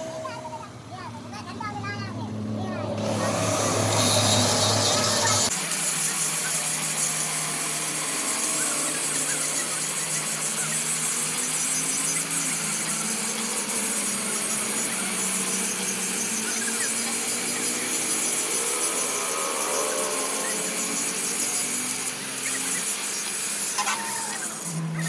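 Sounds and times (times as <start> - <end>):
power tool running: 0.0 - 25.0.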